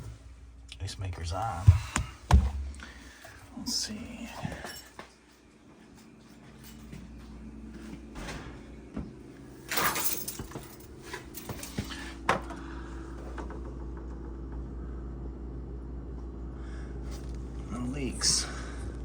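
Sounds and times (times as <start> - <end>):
refrigerator humming: 0.0 - 19.0.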